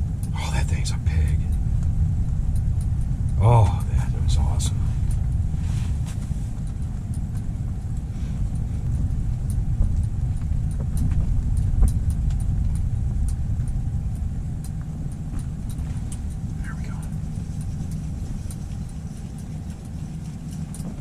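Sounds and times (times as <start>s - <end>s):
faint ticks: 0.0s - 21.0s
wind buffeting microphone: 0.0s - 21.0s.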